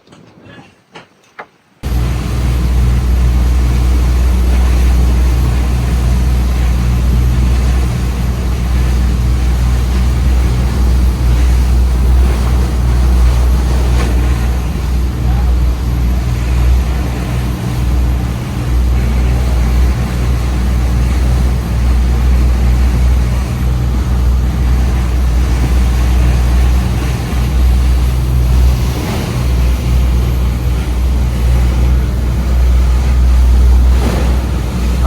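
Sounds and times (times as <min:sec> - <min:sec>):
boat engine rumbling: 0:01.8 - 0:35.0.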